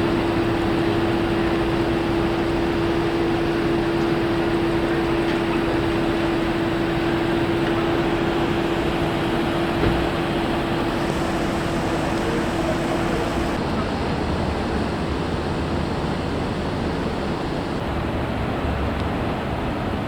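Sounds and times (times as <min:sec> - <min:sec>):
vehicle engine drone: 0:00.0 - 0:17.5.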